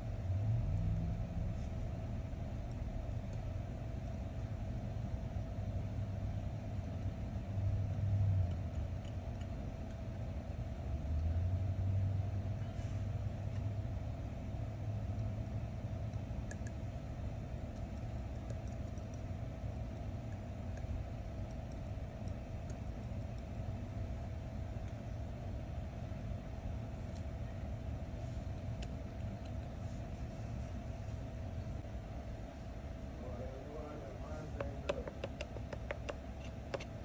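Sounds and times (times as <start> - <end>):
low background rumble: 0.0 - 37.0
mid-pitched hum: 0.0 - 37.0.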